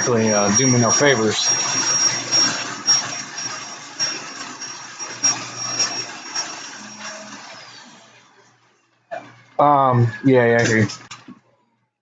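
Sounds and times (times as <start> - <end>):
vacuum cleaner whine: 0.0 - 11.0.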